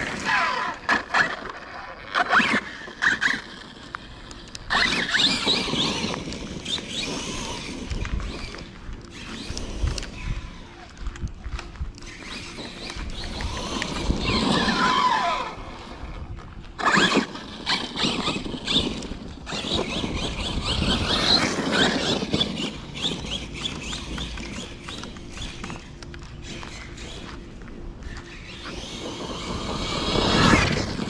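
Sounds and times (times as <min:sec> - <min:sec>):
tyre and drivetrain noise: 0:00.0 - 0:31.0
electric motor whining: 0:02.2 - 0:31.0.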